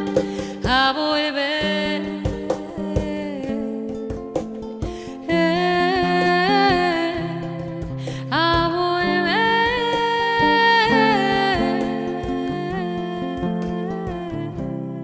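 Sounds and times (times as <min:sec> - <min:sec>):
acoustic guitar: 0:00.0 - 0:15.0
light hand percussion: 0:00.0 - 0:15.0
woman singing wordless notes: 0:00.0 - 0:15.0.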